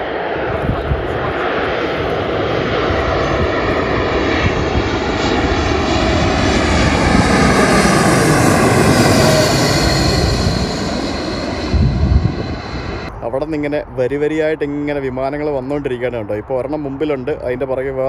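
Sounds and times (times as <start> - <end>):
jet airliner passing overhead: 0.0 - 18.0.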